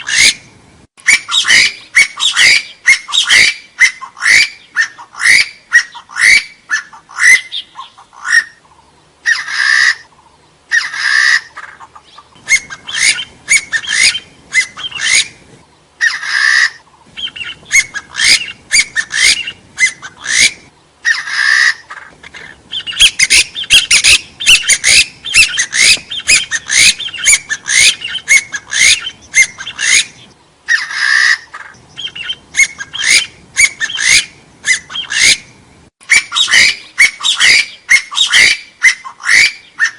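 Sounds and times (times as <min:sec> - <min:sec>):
longer noisy bird call: 0:00.0 - 0:39.9
partridge calling short rising notes: 0:00.0 - 0:39.9.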